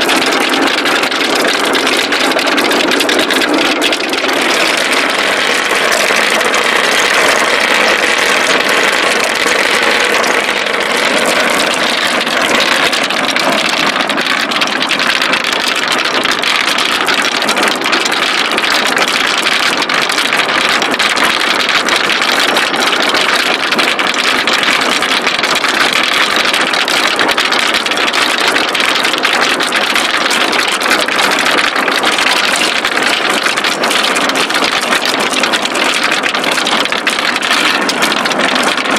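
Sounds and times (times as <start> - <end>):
marbles rolling on wooden run: 0.0 - 38.9.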